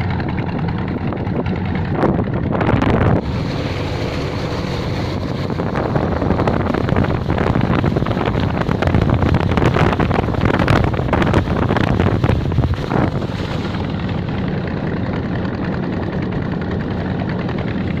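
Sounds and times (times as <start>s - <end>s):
ship engine droning: 0.0s - 18.0s
wind buffeting microphone: 0.0s - 18.0s.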